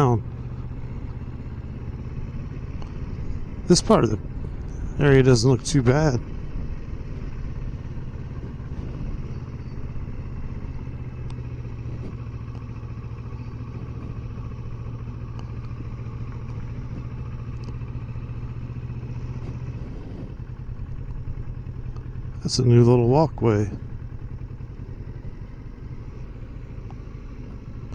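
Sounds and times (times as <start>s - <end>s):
motorcycle engine running: 0.0s - 27.9s
road noise: 0.0s - 27.9s.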